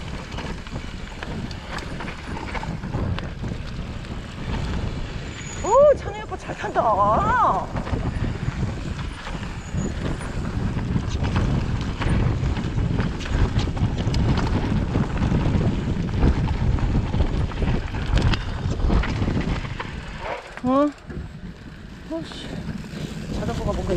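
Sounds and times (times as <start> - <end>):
bike clicks and rattles: 0.0 - 23.9
wind rumbling on microphone: 0.0 - 23.9.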